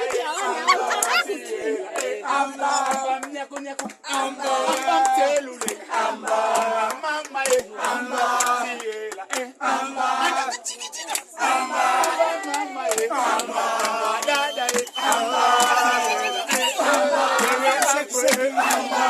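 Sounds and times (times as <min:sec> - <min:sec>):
group singing and chanting: 0:00.0 - 0:19.0.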